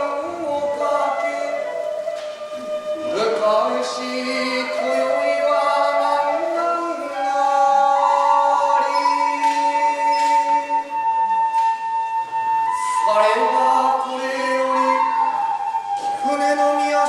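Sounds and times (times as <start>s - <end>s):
man singing: 0.0s - 2.1s, 2.9s - 11.2s, 13.0s - 17.0s
bamboo flute sustained notes: 0.0s - 17.0s.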